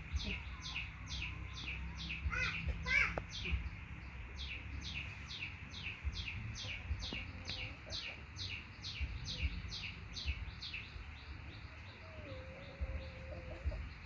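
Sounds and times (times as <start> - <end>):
bird chirping: 0.0 - 14.0
low background rumble: 0.0 - 14.0.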